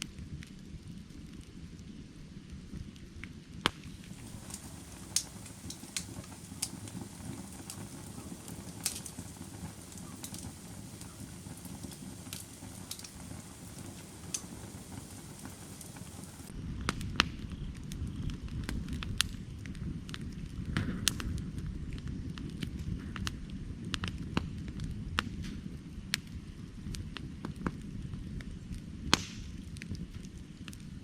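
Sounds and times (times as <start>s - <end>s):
firewood crackling and popping: 0.0s - 31.0s
low rumble of flames: 0.0s - 31.0s.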